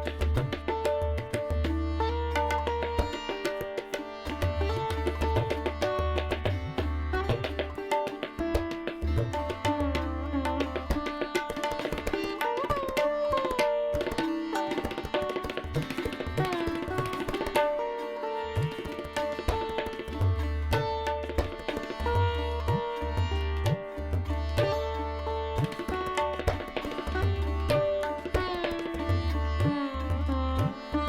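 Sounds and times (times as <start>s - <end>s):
indian instrumental music with tabla: 0.0s - 31.0s.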